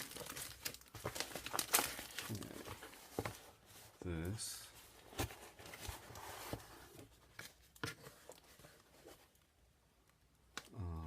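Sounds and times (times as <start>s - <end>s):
faint packaging rustling: 0.0s - 9.6s.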